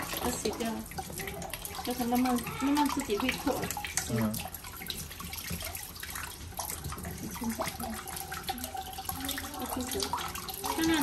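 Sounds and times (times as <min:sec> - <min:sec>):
tap water running: 0:00.0 - 0:11.0
water splashing into bowl: 0:00.0 - 0:11.0.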